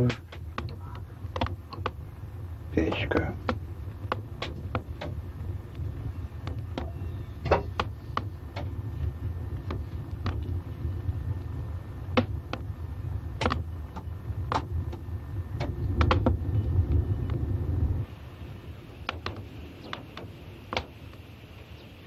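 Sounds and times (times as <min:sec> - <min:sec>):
fire low rumble: 0:00.0 - 0:22.0
wood fire crackling: 0:00.0 - 0:22.0.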